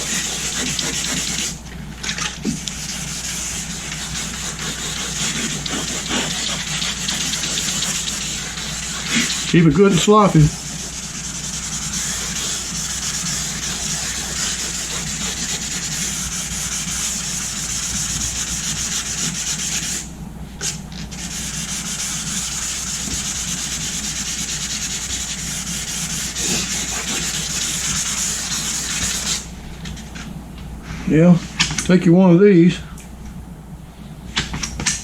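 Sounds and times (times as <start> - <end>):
wet sandpaper scrubbing paint: 0.0 - 1.6, 2.6 - 29.5.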